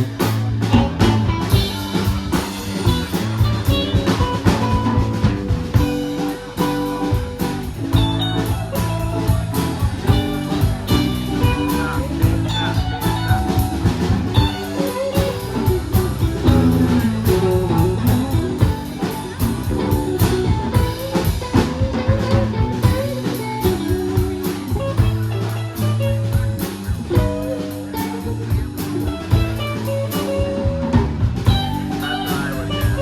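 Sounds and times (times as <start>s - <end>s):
bass guitar: 0.0s - 33.0s
drum kit beat: 0.0s - 33.0s
electric guitar lines: 0.0s - 33.0s.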